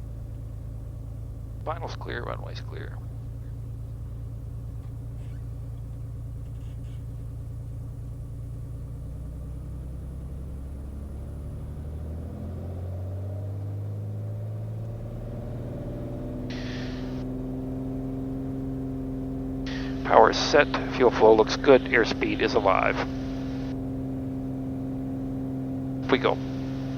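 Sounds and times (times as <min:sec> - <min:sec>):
piston aircraft engine running: 0:00.0 - 0:26.9.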